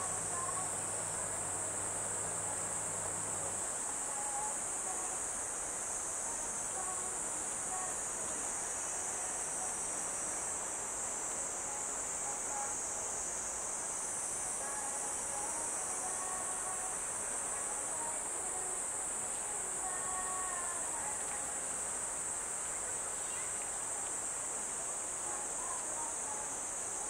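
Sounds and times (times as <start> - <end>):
faint distant sounds: 0.0 - 27.0
insect chorus: 0.0 - 27.0.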